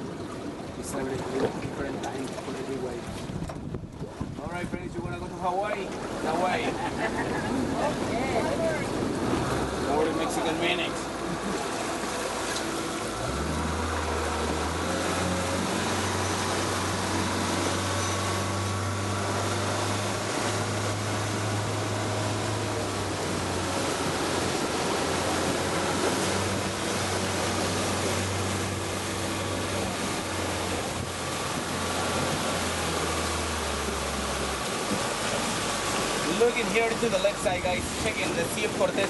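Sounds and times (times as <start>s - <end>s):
boat motor humming: 0.0s - 39.0s
rushing water: 0.0s - 39.0s.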